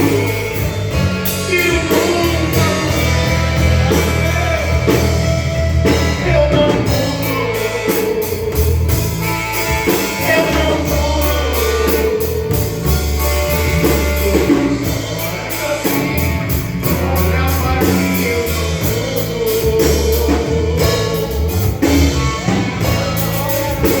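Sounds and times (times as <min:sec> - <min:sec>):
gospel band playing: 0:00.0 - 0:24.0
person singing: 0:00.0 - 0:24.0.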